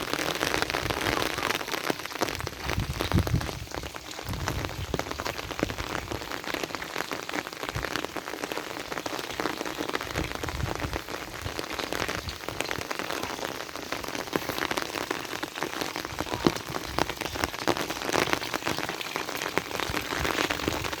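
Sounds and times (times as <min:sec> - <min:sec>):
heavy rain on hard surface: 0:00.0 - 0:21.0.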